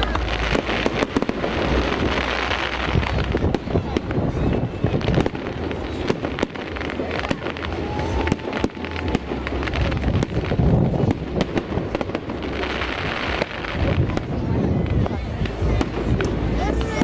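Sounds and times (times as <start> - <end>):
continuous rumble: 0.0 - 17.0
fireworks cracking and banging: 0.0 - 17.0.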